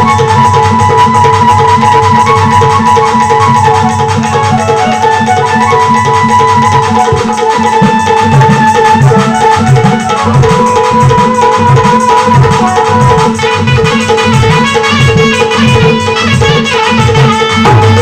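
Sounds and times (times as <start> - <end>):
dholak drumming: 0.0 - 18.0
held melodic instrument line: 0.0 - 18.0.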